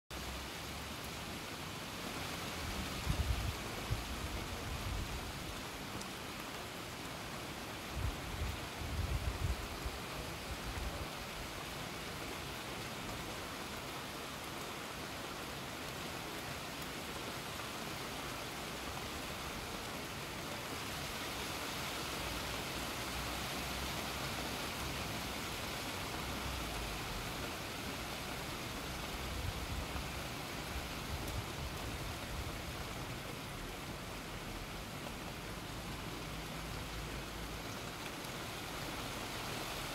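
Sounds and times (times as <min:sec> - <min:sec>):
rain falling on foliage: 0:00.1 - 0:39.9.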